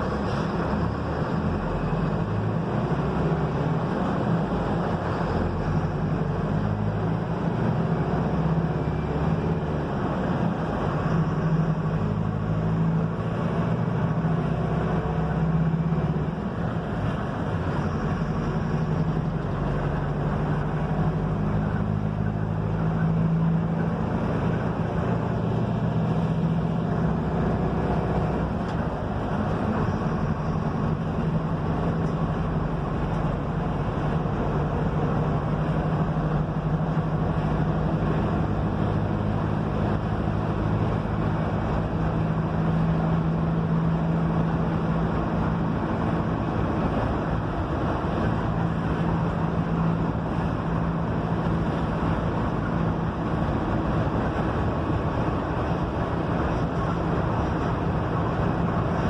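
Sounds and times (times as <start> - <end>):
bus engine droning: 0.0 - 59.0
road and wind noise: 0.0 - 59.0.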